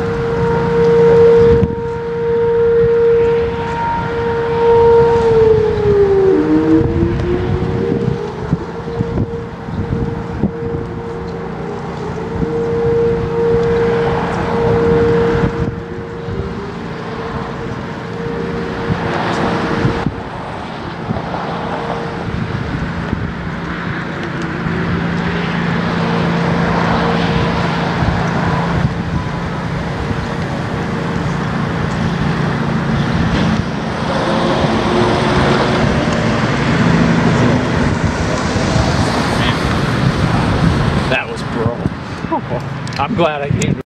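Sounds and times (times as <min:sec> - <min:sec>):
civil defense siren: 0:00.0 - 0:42.8
road traffic noise: 0:00.0 - 0:43.8.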